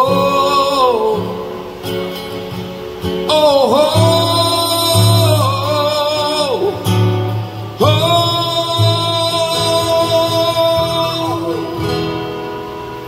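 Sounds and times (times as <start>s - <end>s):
man singing long notes: 0.0s - 1.8s, 3.2s - 12.5s
acoustic guitar: 0.0s - 13.0s.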